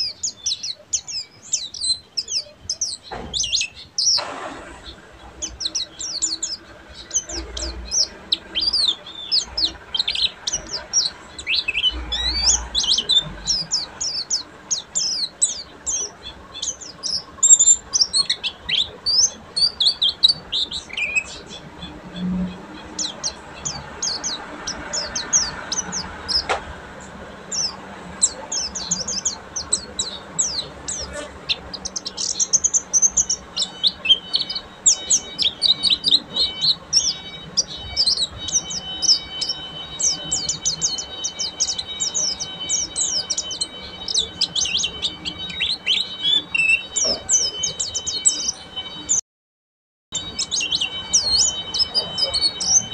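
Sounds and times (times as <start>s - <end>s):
bird twittering: 0.0s - 49.2s, 50.2s - 52.9s.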